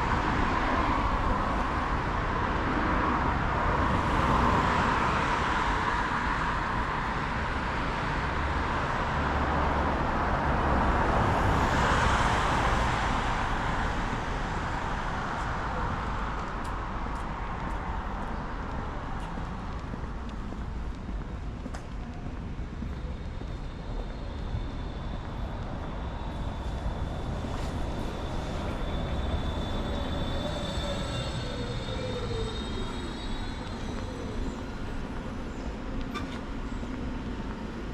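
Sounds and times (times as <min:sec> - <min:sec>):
road traffic: 0:00.0 - 0:37.9.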